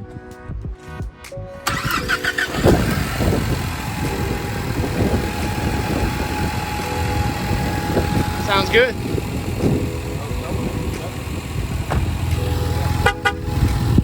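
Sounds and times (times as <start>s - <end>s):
car engine cranking and idling: 1.7s - 14.0s.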